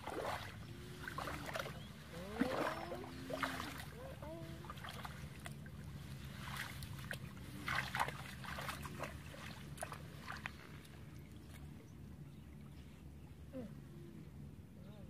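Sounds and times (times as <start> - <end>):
feet splashing in shallow water: 0.0 - 12.9.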